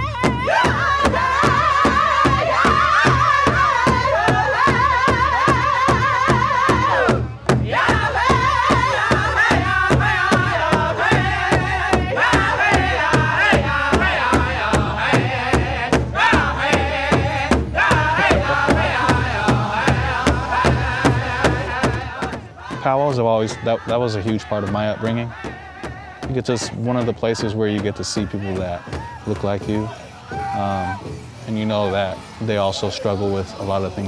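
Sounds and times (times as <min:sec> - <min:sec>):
large hand drum beating: 0:00.0 - 0:33.0
men singing in wavering voices: 0:00.0 - 0:34.0.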